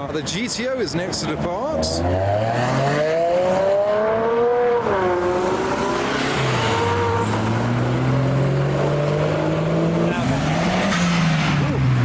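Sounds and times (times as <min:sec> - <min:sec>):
car engine accelerating: 0:01.3 - 0:12.0.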